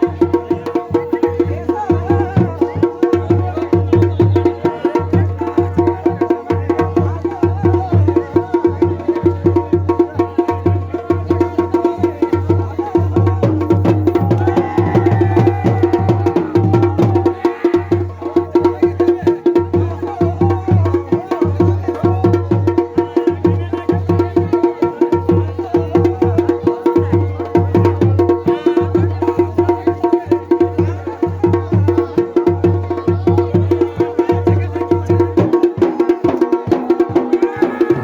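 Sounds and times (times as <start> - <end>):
drums in fast rhythm: 0.0 - 38.0.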